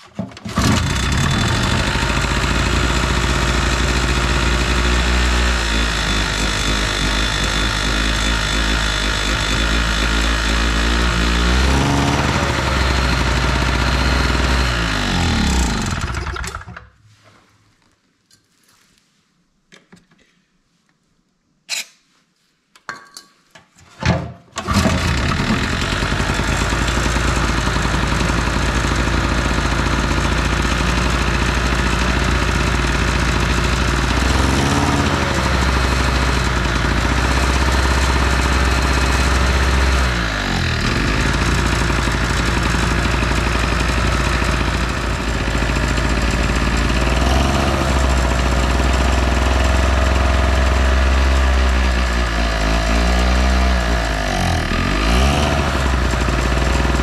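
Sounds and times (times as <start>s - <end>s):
generator engine running: 0.2s - 16.8s, 24.6s - 57.0s.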